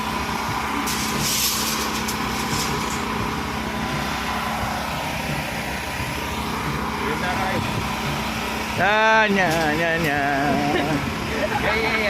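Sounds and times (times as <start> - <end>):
engine drone: 0.0 - 12.0
hissing rush: 0.1 - 12.0.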